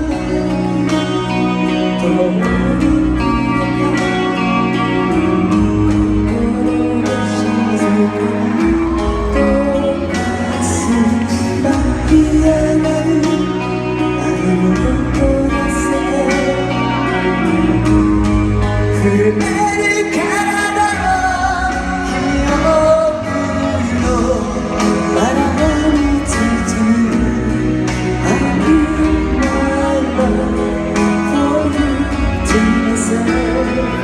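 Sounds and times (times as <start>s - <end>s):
guitar: 0.0s - 34.0s
live rock ballad by full band: 0.0s - 34.0s
person singing: 0.0s - 34.0s.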